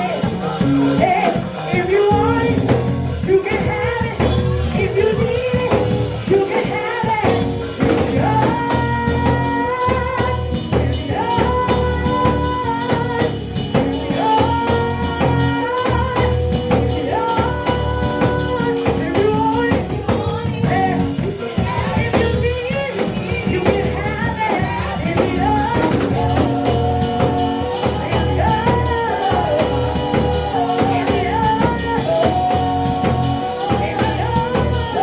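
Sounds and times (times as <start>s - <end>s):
drums: 0.0s - 35.0s
voices singing and calling out: 0.0s - 35.0s.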